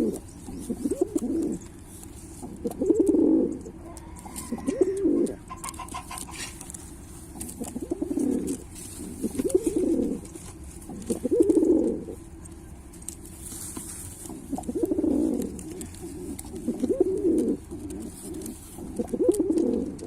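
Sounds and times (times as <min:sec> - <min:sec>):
pigeon cooing: 0:00.0 - 0:12.6, 0:14.2 - 0:20.0.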